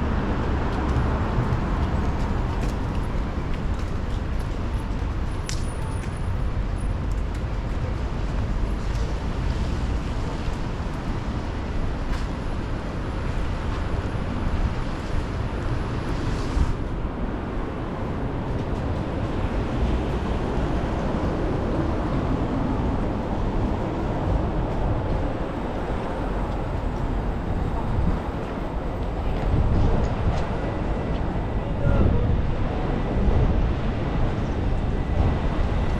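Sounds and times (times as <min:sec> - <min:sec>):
road traffic noise: 0:00.0 - 0:35.9
wind rumbling on microphone: 0:00.0 - 0:35.9.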